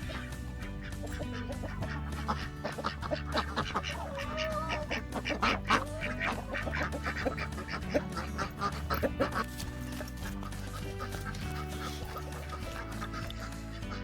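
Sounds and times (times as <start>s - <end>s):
background music with bass line: 0.0s - 14.0s
farm fowl calling: 0.0s - 14.0s.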